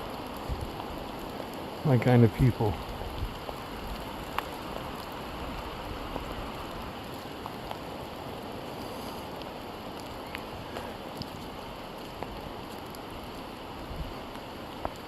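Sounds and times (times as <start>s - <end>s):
raindrops ticking close by: 0.0s - 15.0s
steady rain hiss: 0.0s - 15.0s.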